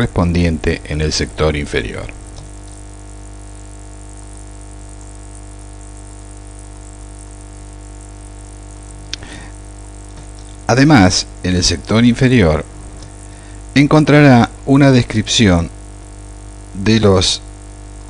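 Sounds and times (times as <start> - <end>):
hum of held tones: 0.0 - 18.0.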